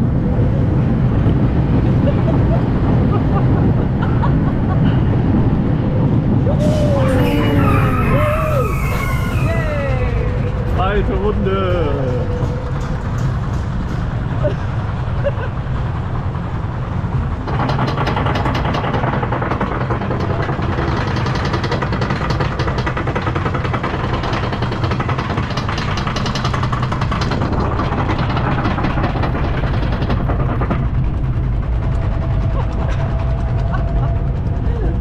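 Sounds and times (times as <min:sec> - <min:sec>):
roller coaster rumbling and rattling: 0:00.0 - 0:35.0.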